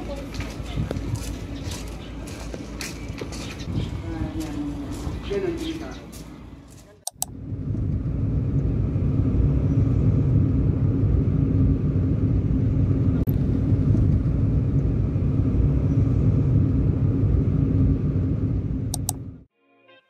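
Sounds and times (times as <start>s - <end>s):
car road rumble: 0.0s - 19.5s.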